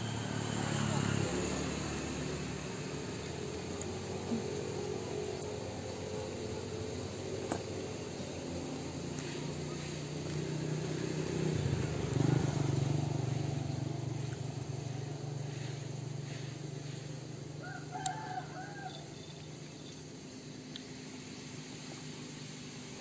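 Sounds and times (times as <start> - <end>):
low rumbling drone: 0.0 - 20.5.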